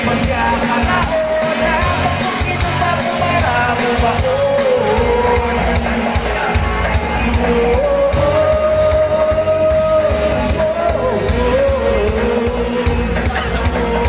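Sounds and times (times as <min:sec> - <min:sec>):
backing track with bass beat: 0:00.0 - 0:14.0
person singing: 0:00.0 - 0:14.0.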